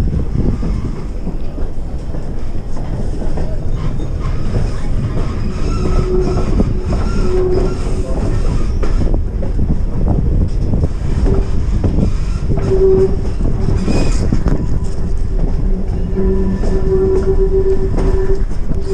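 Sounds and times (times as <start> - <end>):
train rumbling on rails: 0.0 - 18.9
wheels squealing on rails: 0.2 - 9.6, 10.4 - 18.9.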